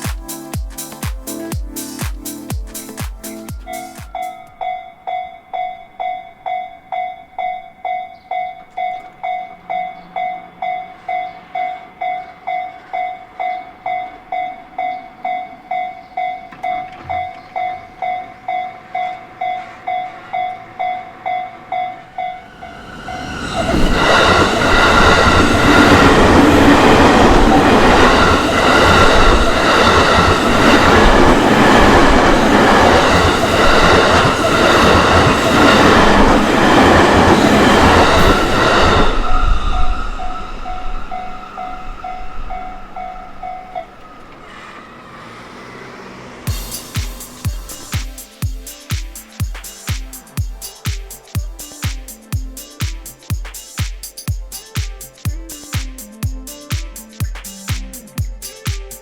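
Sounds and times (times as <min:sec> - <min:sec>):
level-crossing warning bell: 0:00.0 - 0:58.6
train passing: 0:00.0 - 0:59.0.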